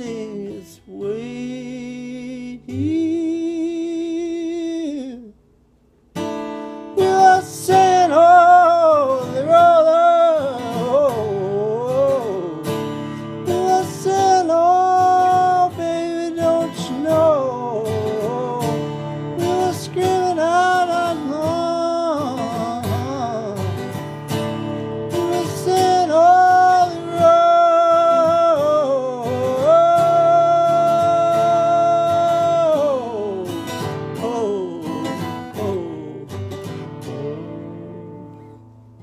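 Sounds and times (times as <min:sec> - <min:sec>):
strummed acoustic guitar: 0:00.0 - 0:05.4, 0:06.0 - 0:39.0.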